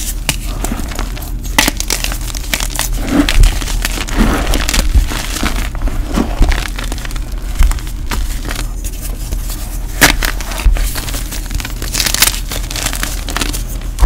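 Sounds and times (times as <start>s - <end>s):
chalk crunching by hand: 0.0s - 13.8s.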